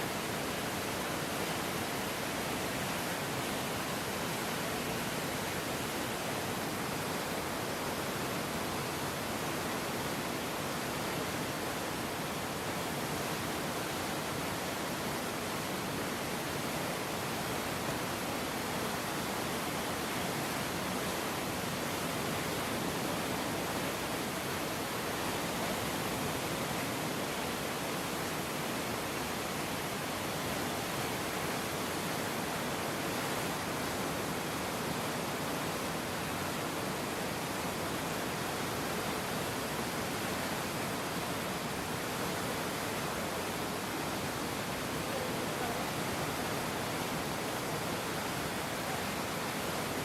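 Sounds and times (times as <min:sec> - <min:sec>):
river rushing water: 0:00.0 - 0:50.0.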